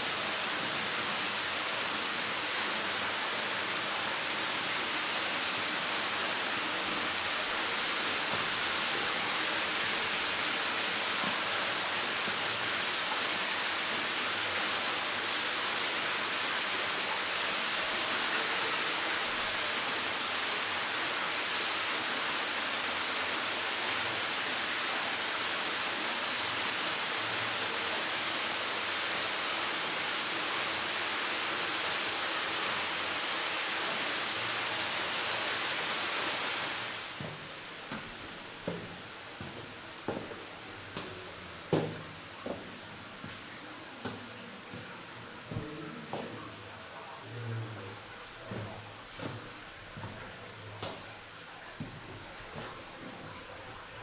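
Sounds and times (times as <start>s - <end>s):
water rushing through cave: 0.0s - 54.0s.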